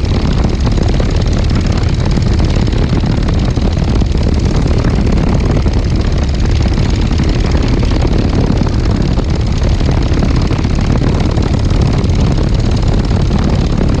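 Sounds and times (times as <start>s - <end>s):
ultralight aircraft engine running: 0.0s - 14.0s.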